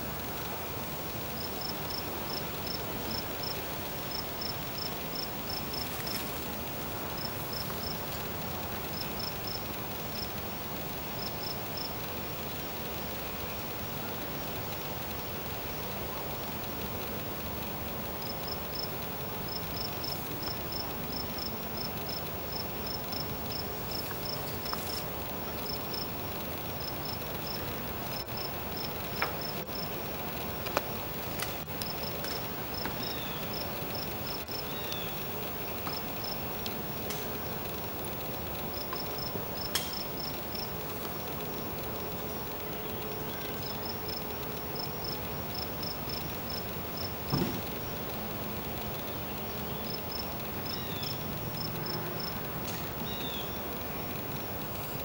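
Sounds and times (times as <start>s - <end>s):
cricket chirping: 0.0s - 55.0s
steady hiss: 0.0s - 55.0s.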